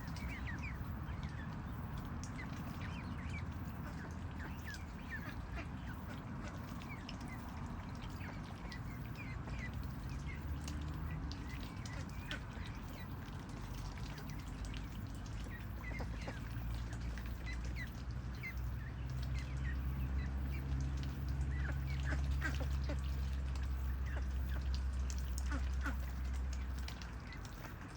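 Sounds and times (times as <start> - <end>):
ducks calling: 0.0 - 14.6, 15.2 - 27.9
low steady rumble: 0.0 - 27.9.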